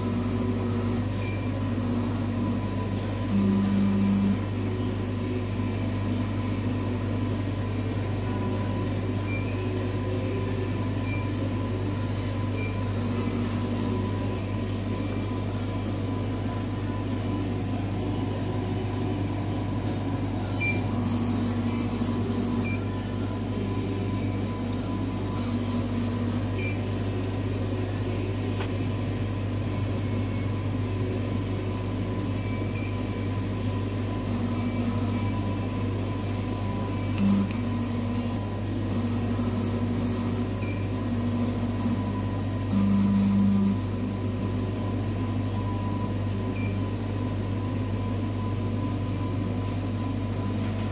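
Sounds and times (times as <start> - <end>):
low whirring tone: 0.0 - 50.9
steady mechanical hum: 0.0 - 50.9.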